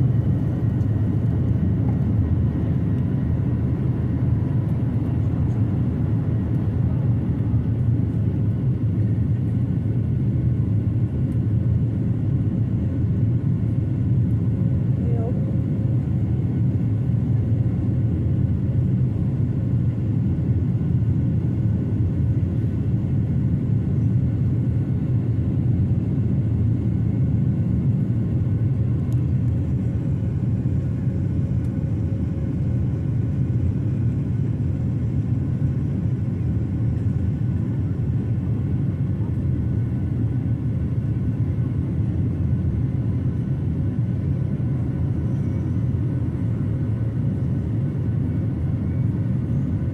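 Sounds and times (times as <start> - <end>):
airliner engine rumble: 0.0 - 49.9.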